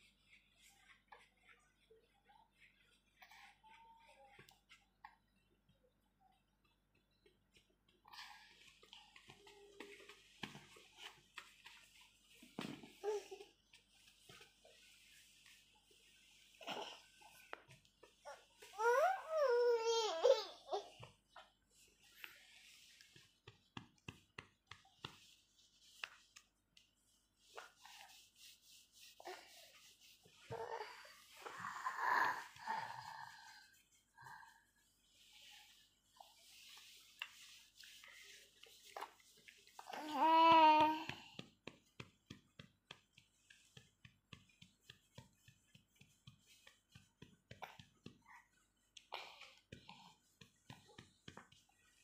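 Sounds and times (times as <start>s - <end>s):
soft muffled handling sounds: 0.0s - 52.0s.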